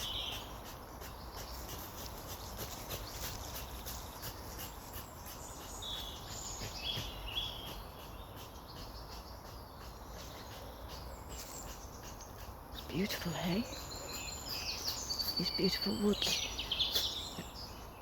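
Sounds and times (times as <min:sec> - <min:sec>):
birds chirping: 0:00.0 - 0:18.0
outdoor background hiss: 0:00.0 - 0:18.0.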